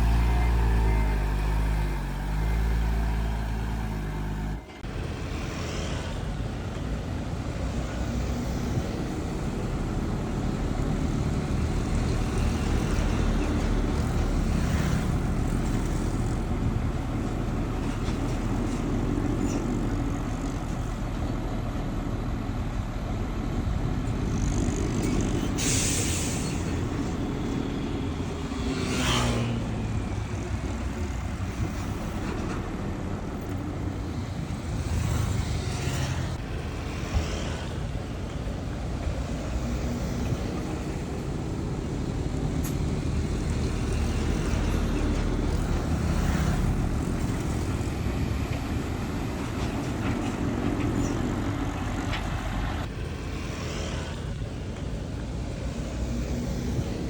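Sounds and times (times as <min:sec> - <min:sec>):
heavy diesel engines rumbling: 0:00.0 - 0:57.0.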